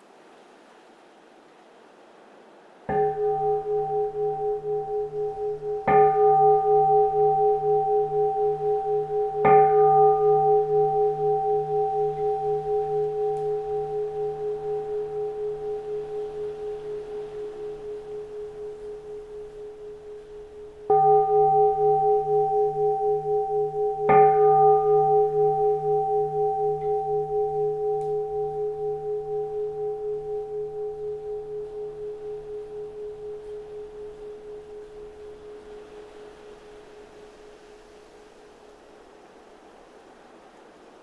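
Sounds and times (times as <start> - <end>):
bowl bell ringing: 2.9 - 38.8.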